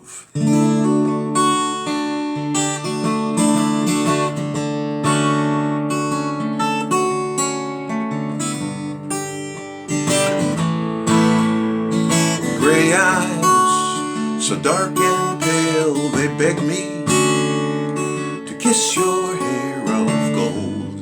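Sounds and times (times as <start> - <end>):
acoustic guitar strummed and picked: 0.0 - 21.0.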